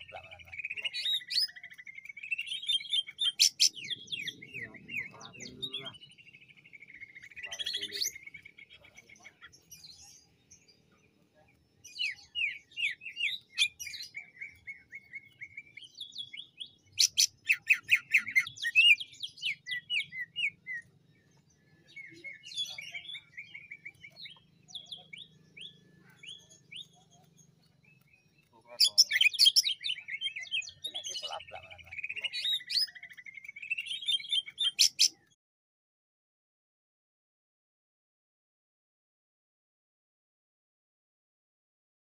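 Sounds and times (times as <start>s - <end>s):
bird singing high chirps and trills: 0.0s - 35.4s.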